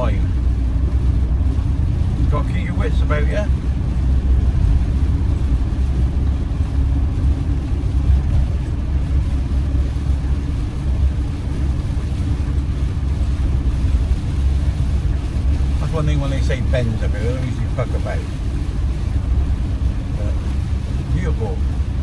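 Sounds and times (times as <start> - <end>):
engine low rumble: 0.0 - 22.0
road noise: 0.0 - 22.0.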